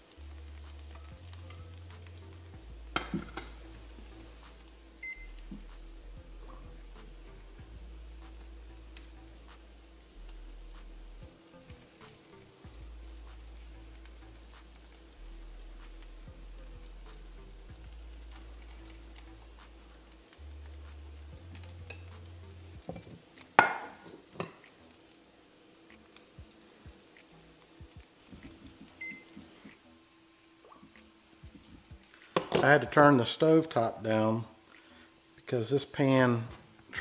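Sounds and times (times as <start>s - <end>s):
cheese sizzling in a frying pan: 0.0s - 37.0s.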